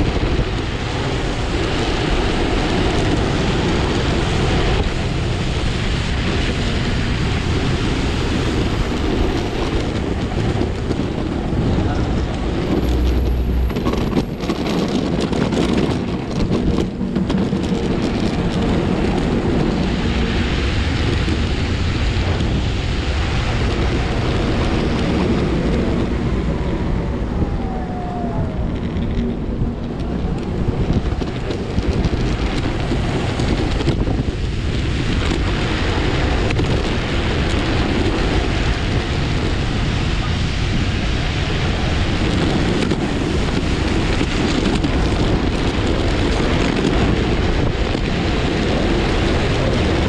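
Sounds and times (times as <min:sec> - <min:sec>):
wheels rolling on asphalt: 0:00.0 - 0:50.0
wind buffeting microphone: 0:00.0 - 0:50.0.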